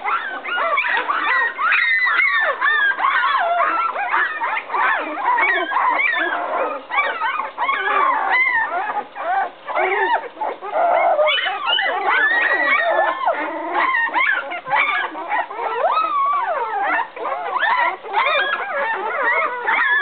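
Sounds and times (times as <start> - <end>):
puppies crying and whimpering: 0.0 - 20.0.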